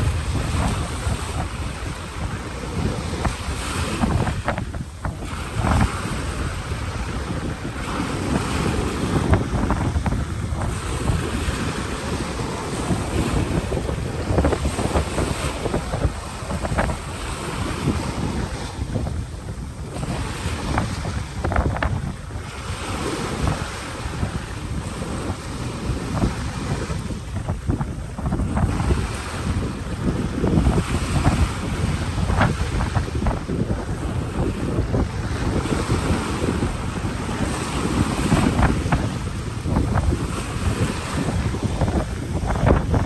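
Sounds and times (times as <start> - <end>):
waves breaking on a beach: 0.0 - 43.0
wind buffeting microphone: 0.0 - 43.0.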